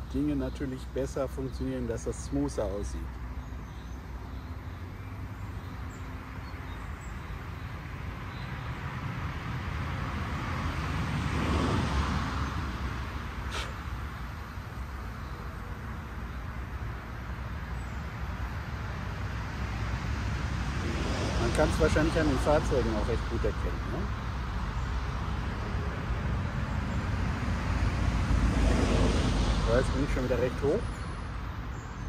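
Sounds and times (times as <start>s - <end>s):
low traffic rumble: 0.0s - 32.0s
vehicle passing: 0.0s - 32.0s.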